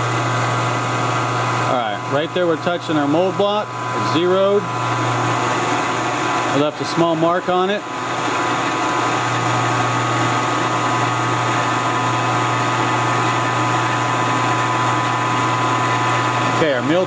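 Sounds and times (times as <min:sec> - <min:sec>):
milling machine humming and whining: 0:00.0 - 0:17.0.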